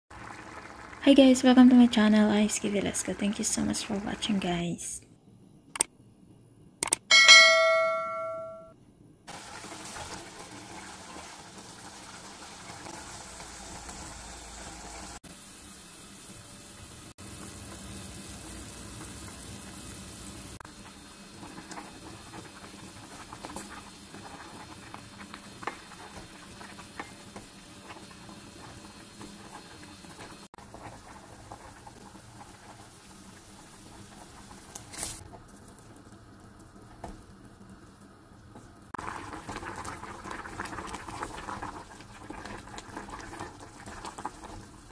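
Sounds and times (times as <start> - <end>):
sauce bubbling in a pot: 0.1 - 4.3, 9.3 - 44.9.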